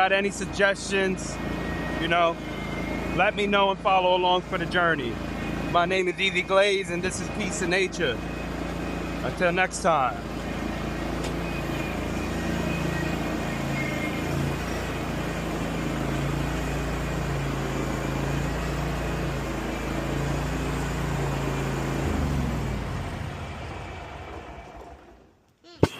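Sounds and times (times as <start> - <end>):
riding mower engine running: 0.0 - 25.5.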